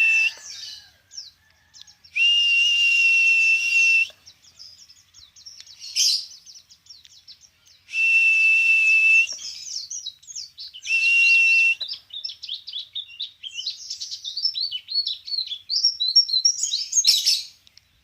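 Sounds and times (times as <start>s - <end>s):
songbird chirps and trills: 0.0s - 18.0s.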